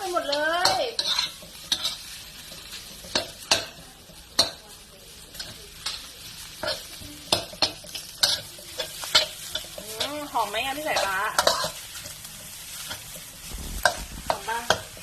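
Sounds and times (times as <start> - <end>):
spatula scraping and tapping pan: 0.0 - 4.7, 5.3 - 15.0
rice sizzling in a pan: 0.0 - 15.0.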